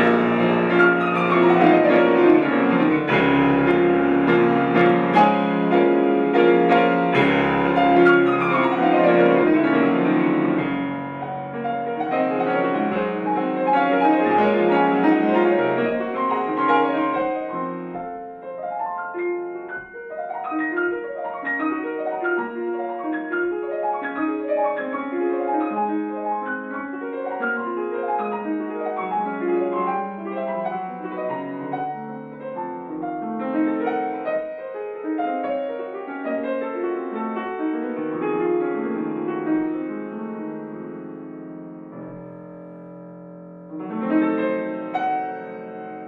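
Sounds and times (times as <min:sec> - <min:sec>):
grand piano playing: 0:00.0 - 0:46.0.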